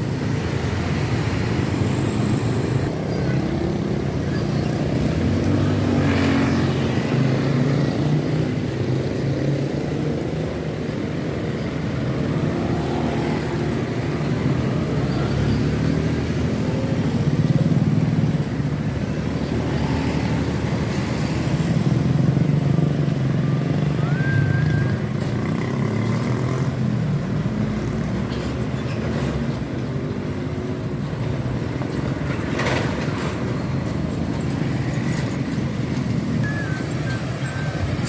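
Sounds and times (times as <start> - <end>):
trucks and motorcycles passing: 0.0 - 38.0.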